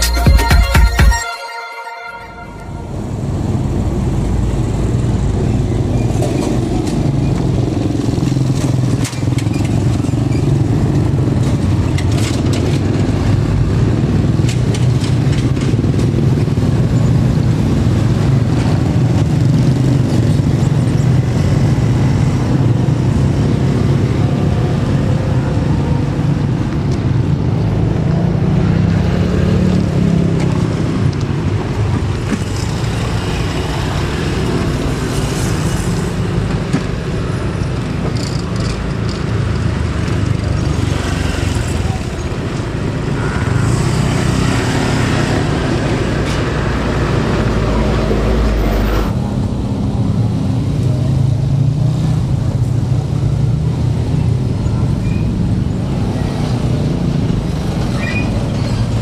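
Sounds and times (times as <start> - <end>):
motorcycles and cars passing: 2.4 - 59.0.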